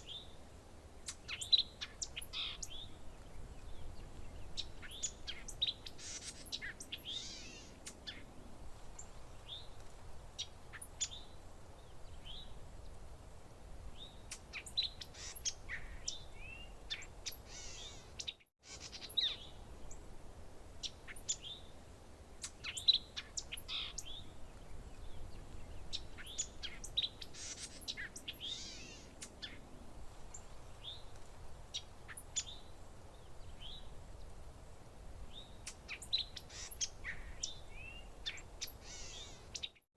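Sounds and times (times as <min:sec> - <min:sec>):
faint low background noise: 0:00.0 - 0:39.8
songbirds chirping and trilling: 0:00.0 - 0:39.8.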